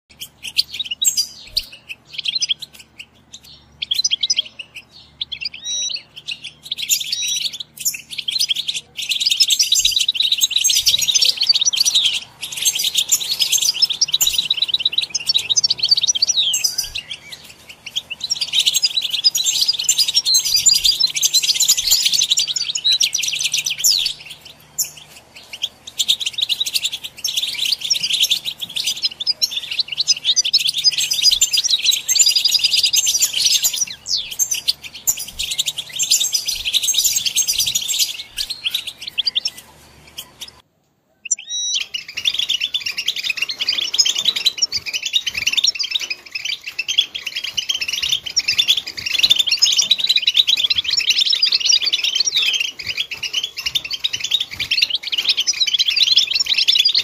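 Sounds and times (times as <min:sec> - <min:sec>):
finch twittering and trilling: 0:00.1 - 0:40.6, 0:41.2 - 0:57.0.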